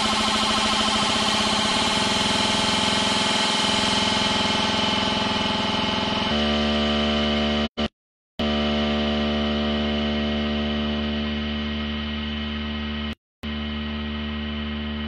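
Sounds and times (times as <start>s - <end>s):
droning synth chord: 0.0s - 7.8s, 8.4s - 15.0s
buzzing synth with rapid pulse: 0.0s - 15.0s.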